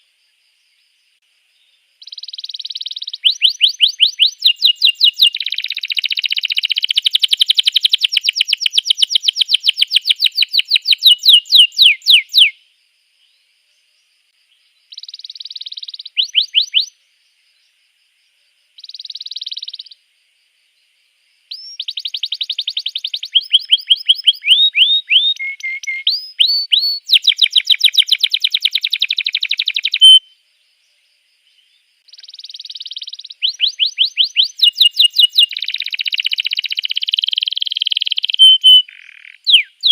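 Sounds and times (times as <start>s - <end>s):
canary singing trills: 1.6s - 12.6s, 14.6s - 17.0s, 18.8s - 20.0s, 21.5s - 30.4s, 31.5s - 39.9s.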